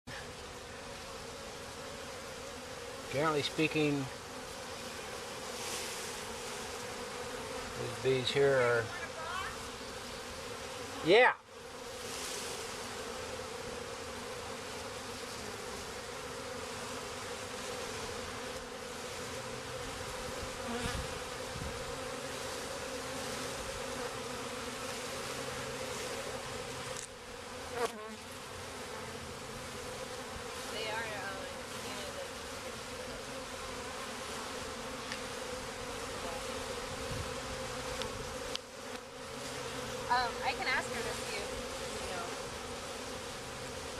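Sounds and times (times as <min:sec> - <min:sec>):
bee swarm buzzing: 0:00.1 - 0:43.9.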